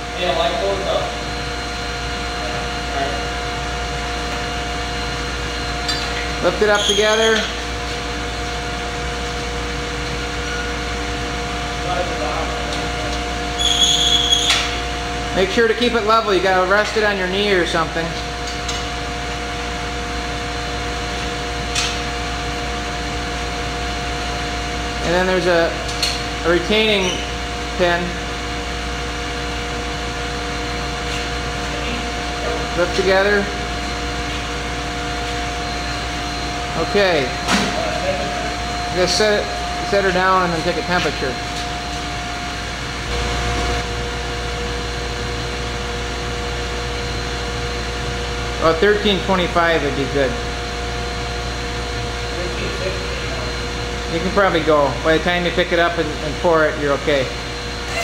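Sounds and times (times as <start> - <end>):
foundry machinery drone: 0.0 - 58.0.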